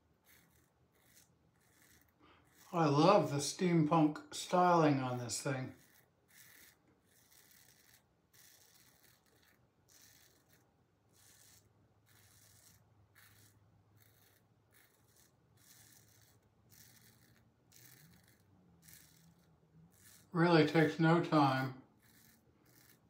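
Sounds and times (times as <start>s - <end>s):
razor scraping stubble: 0.0s - 23.0s.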